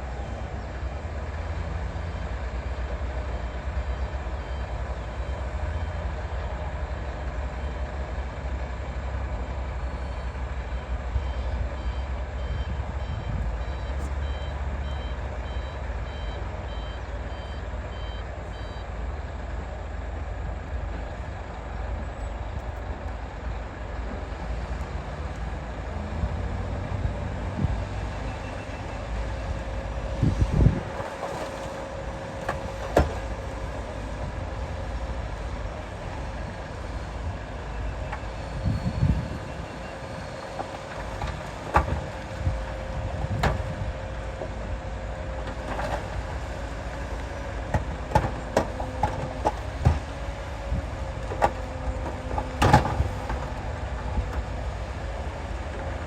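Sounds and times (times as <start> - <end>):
heavy diesel machinery running: 0.0 - 56.0
machinery whine: 0.0 - 56.0.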